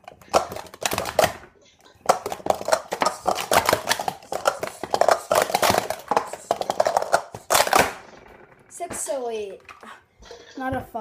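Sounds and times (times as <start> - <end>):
plastic cups clattering: 0.0 - 10.5.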